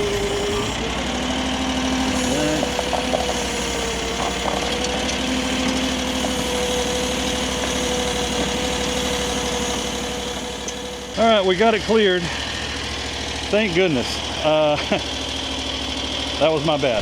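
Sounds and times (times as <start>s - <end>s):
machine whine: 0.0s - 17.0s
mini skid steer running: 0.0s - 17.0s.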